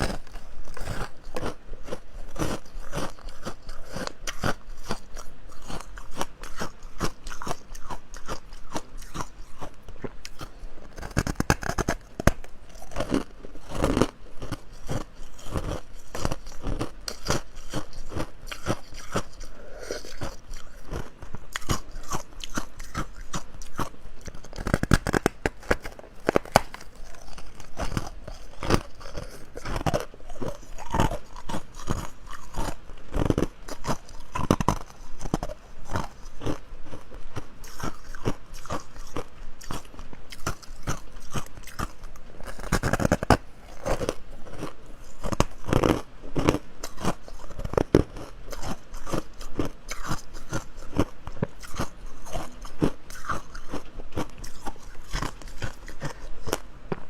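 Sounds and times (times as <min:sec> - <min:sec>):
ice crunching being chewed: 0:00.0 - 0:57.0.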